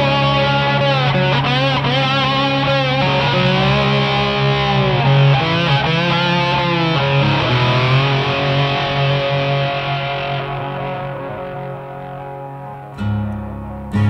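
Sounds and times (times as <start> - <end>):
music of sustained held tones: 0.0 - 14.0.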